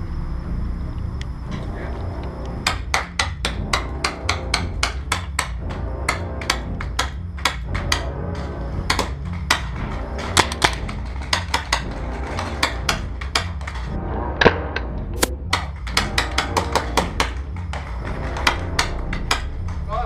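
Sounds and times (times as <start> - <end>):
low rumble: 0.0 - 3.0, 5.6 - 20.0.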